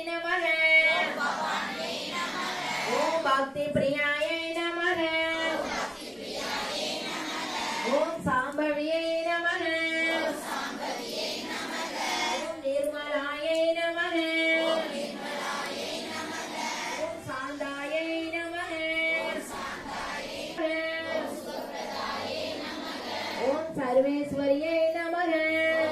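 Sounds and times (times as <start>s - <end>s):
woman singing devotional song: 0.0s - 6.0s, 6.9s - 25.9s.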